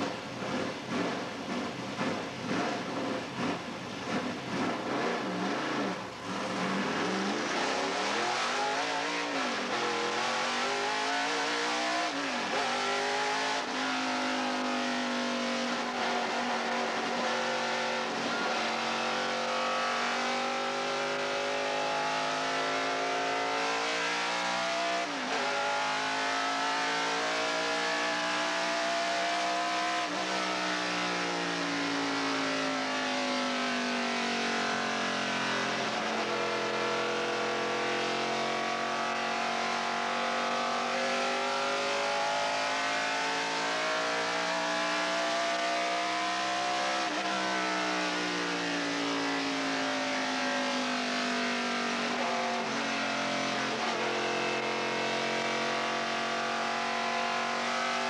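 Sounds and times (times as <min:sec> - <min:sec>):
truck engine accelerating through gears: 0:00.0 - 0:58.0.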